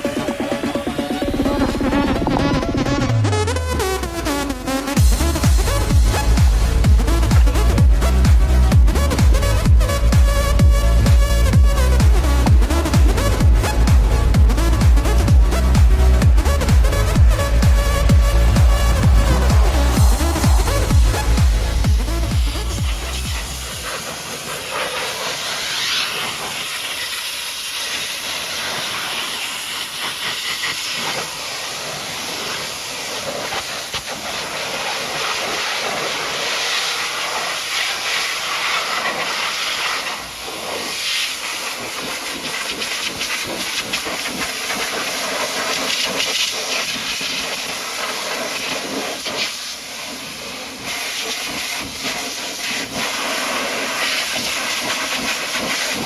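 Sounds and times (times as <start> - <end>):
pressure washer spraying water: 3.8 - 56.0.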